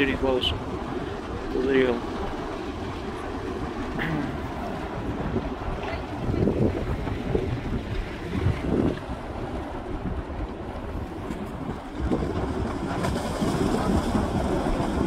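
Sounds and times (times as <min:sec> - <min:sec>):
volcanic eruption roaring: 0:00.0 - 0:15.0
wind buffeting microphone: 0:00.0 - 0:15.0.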